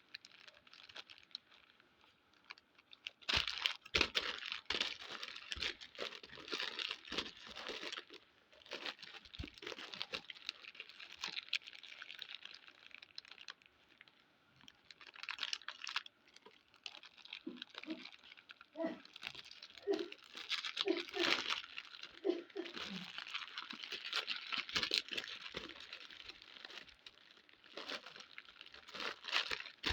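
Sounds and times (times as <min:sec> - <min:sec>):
plastic wrappers crinkling: 0:00.0 - 0:29.9.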